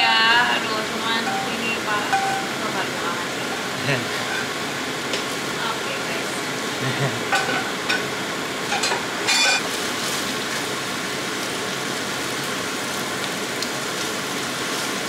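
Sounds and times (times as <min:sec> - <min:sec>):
spaghetti sizzling in oil: 0:00.0 - 0:15.0.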